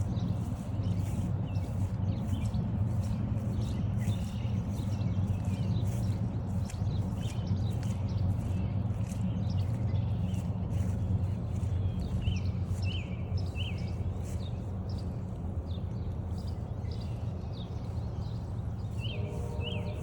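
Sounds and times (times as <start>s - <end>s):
footsteps crunching on trail: 0.0s - 20.0s
songbirds chirping: 0.0s - 20.0s.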